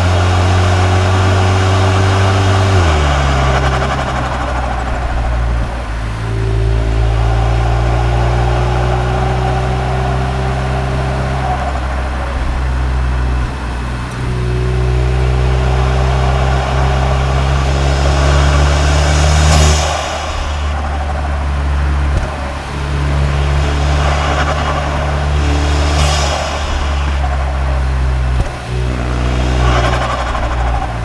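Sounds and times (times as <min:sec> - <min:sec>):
turbocharged car engine revving: 0:00.0 - 0:31.0
turbo hiss: 0:02.1 - 0:31.0.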